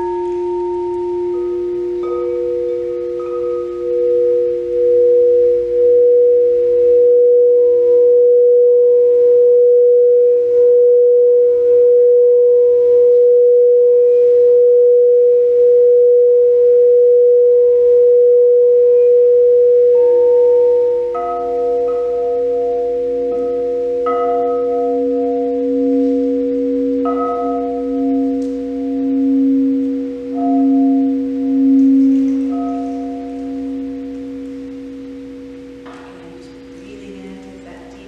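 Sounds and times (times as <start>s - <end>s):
lower singing bowl tone: 0.0s - 37.6s
singing bowl tone: 0.0s - 38.0s.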